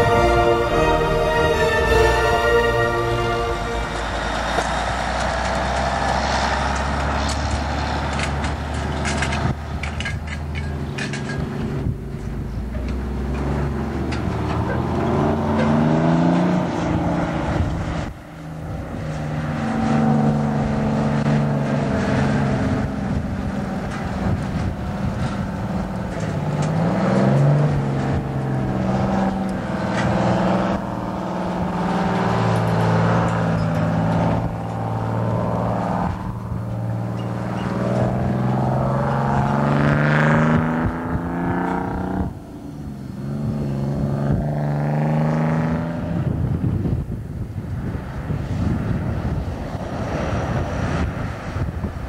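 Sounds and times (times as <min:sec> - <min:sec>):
combine harvester engine: 0:00.0 - 0:43.6
diesel trucks driving past: 0:00.0 - 0:52.0.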